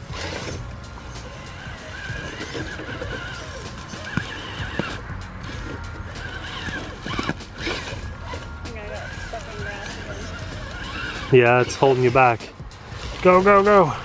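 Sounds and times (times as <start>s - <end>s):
toy truck motor whining: 0.0s - 14.0s.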